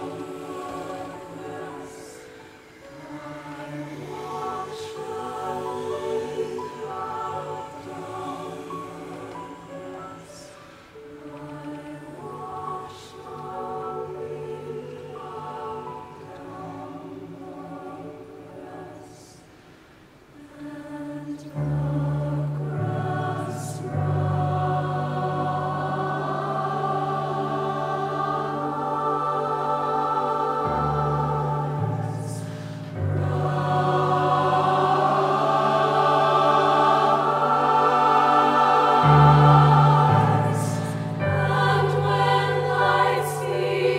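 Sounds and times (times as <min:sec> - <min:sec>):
choir singing held chords: 0:00.0 - 0:43.9.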